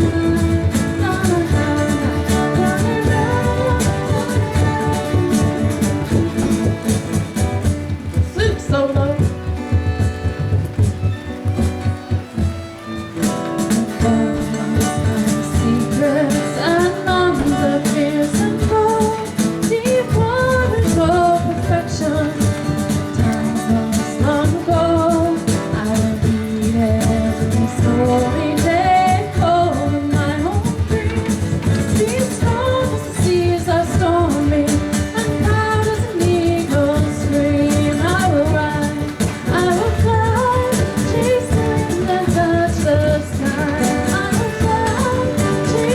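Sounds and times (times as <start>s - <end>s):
person singing: 0.0s - 10.6s, 12.8s - 45.9s
accompanying instruments: 0.0s - 45.9s.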